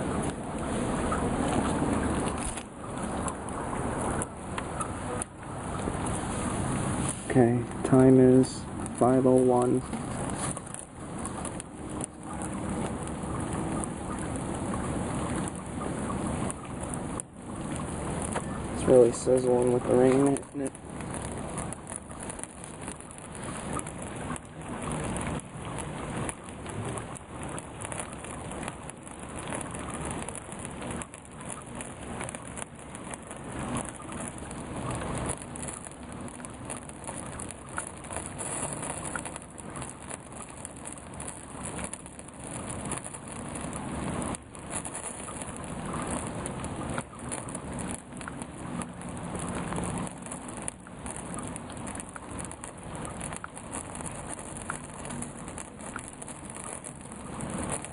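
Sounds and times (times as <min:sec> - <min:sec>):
candle sizzling: 0:00.0 - 0:57.9
rain pattering: 0:00.0 - 0:57.9.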